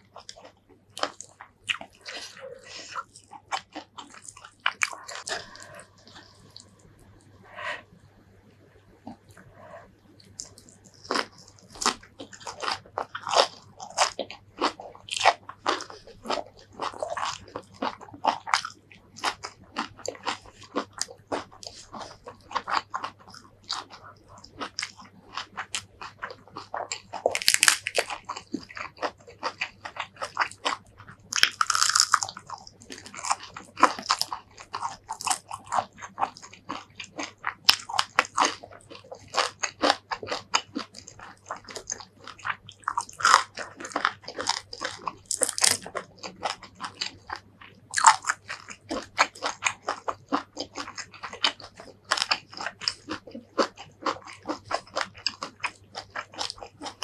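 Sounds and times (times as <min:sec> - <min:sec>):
chewing and crunching greens: 0:00.0 - 0:07.4, 0:09.0 - 0:57.0.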